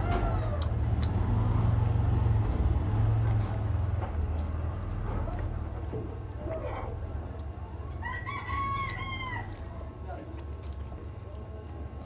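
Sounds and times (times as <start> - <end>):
chewing clicks: 0.0 - 12.0
low engine hum: 0.0 - 12.0.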